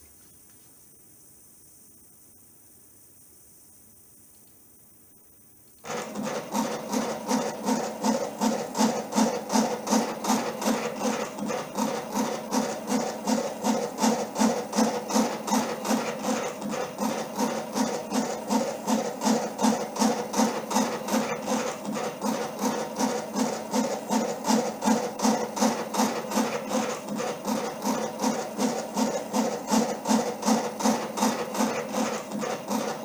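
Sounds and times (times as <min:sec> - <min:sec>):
stepper motors pulsing and buzzing: 0:05.9 - 0:33.0.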